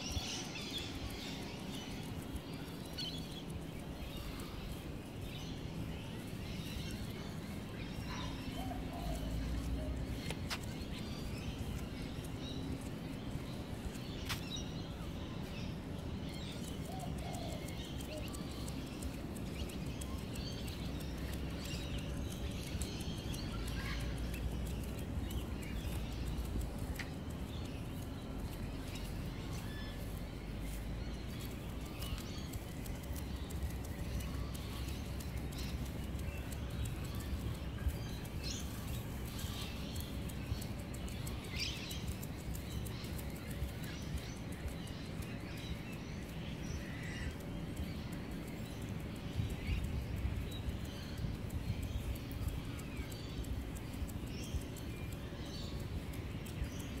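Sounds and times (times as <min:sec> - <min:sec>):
birds chirping: 0:00.0 - 0:57.0
low background noise: 0:00.0 - 0:57.0.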